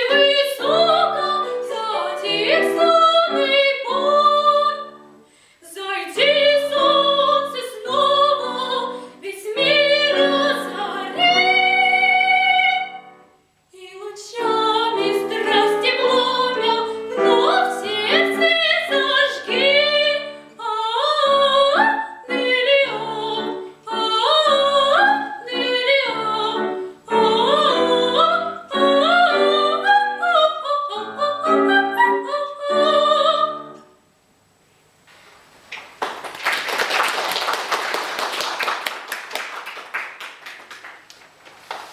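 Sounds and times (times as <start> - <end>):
girl singing art song: 0.0 - 34.0.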